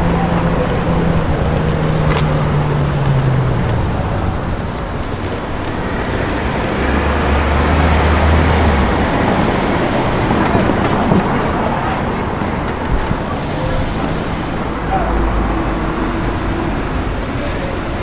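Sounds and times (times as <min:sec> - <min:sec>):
cars driving past: 0:00.0 - 0:18.0
low steady engine drone: 0:00.0 - 0:18.0.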